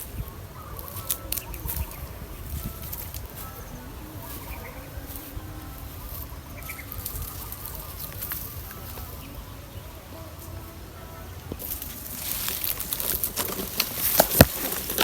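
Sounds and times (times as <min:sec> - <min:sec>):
faint low murmur: 0:00.0 - 0:15.0.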